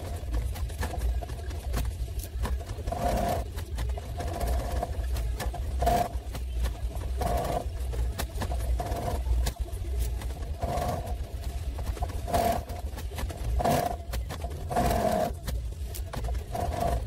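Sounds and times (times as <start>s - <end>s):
sewing machine stitching: 0.0s - 17.0s.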